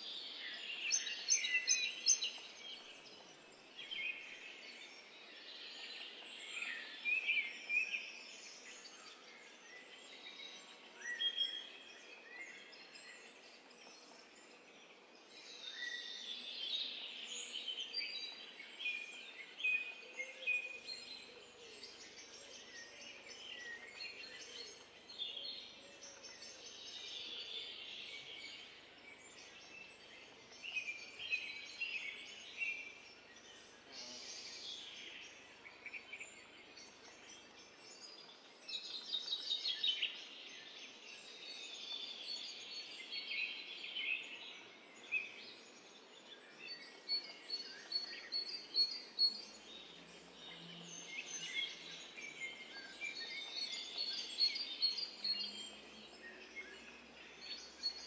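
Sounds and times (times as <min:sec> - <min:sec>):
soft outdoor hiss: 0:00.0 - 0:58.0
songbirds singing: 0:00.0 - 0:58.0.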